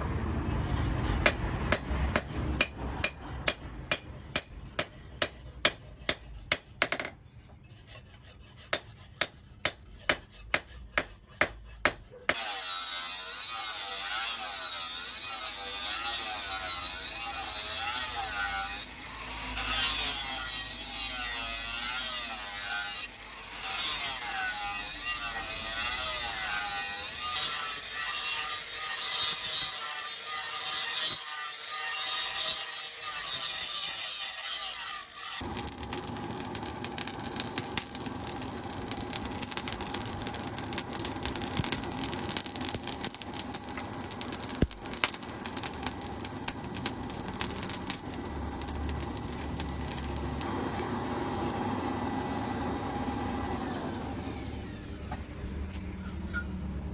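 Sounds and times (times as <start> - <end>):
sawing or filing steel: 0.0 - 54.1.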